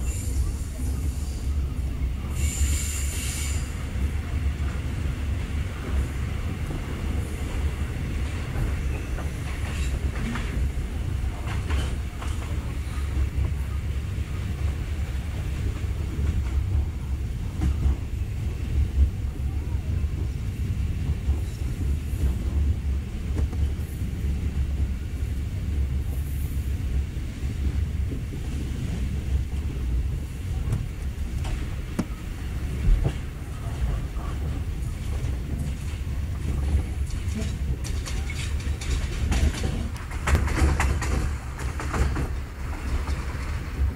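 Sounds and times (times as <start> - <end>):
train interior rumble: 0.0 - 43.9.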